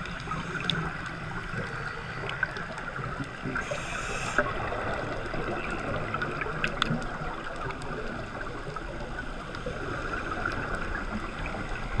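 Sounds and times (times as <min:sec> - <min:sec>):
underwater hiss and crackle: 0:00.0 - 0:12.0.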